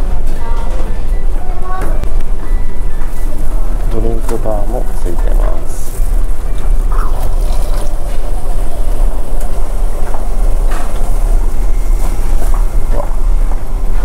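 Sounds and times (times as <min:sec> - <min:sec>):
ship engines rumbling: 0:00.0 - 0:14.0.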